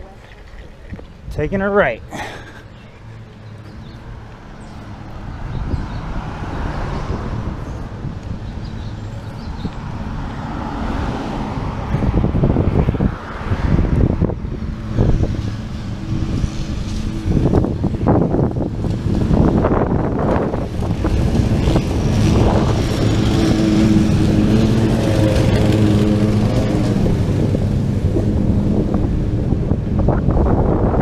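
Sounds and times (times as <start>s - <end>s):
street traffic: 0.0s - 31.0s
wind buffeting microphone: 0.0s - 31.0s
car passing: 2.2s - 31.0s.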